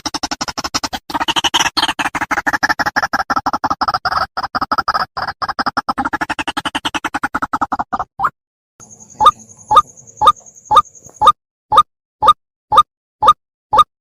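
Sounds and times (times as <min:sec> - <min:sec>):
bird calling rapid notes: 0:00.0 - 0:03.3, 0:03.9 - 0:12.4.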